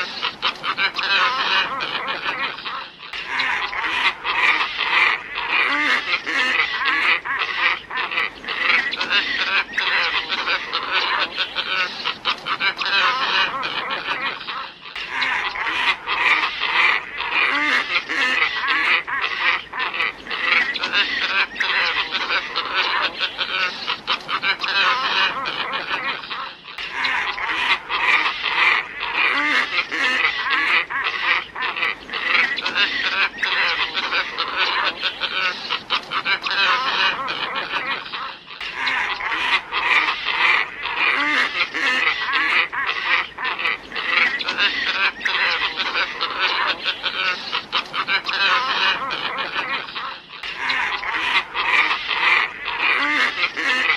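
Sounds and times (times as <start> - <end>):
flock of ibises calling: 0.0 - 53.9.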